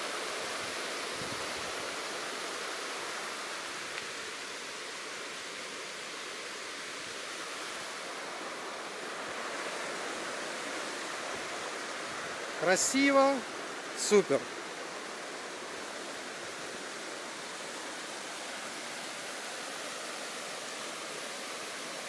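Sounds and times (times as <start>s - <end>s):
stream running over rocks: 0.0s - 22.0s
waterfall rushing: 0.0s - 22.0s.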